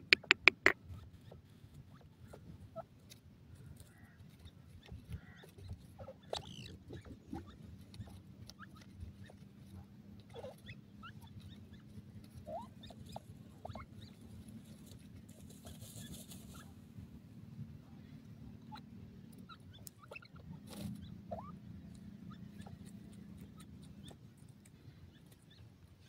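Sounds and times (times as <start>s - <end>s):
birds squeaking and chirping: 0.0s - 26.0s
scratching and pecking in soil: 0.0s - 26.0s.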